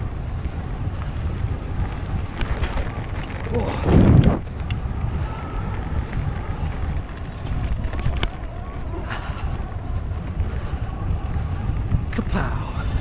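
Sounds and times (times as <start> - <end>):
bike tyres rumbling on dirt: 0.0 - 13.0
wind rushing over microphone: 0.0 - 13.0.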